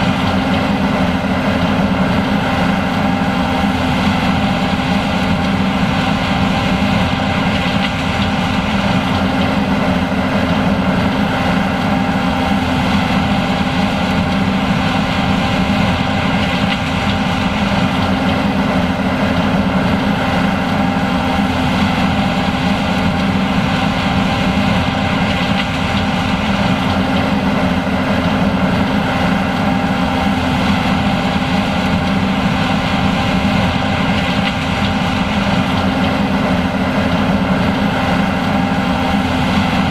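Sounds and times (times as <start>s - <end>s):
combine harvester engine drone: 0.0s - 39.9s
steady whining tones: 0.0s - 39.9s.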